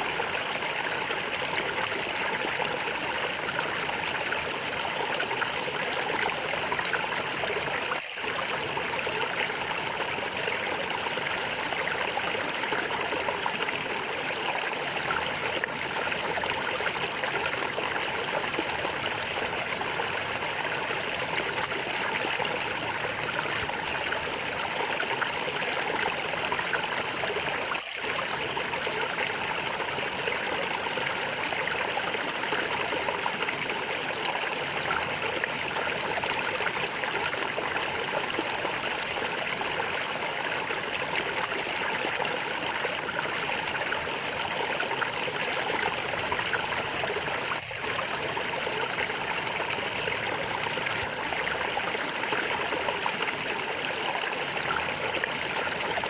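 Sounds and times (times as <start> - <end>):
flowing water gurgling: 0.0 - 56.0.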